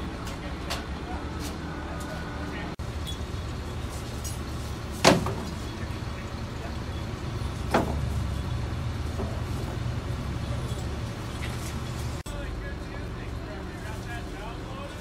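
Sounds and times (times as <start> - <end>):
crane engine rumbling: 0.0 - 15.0.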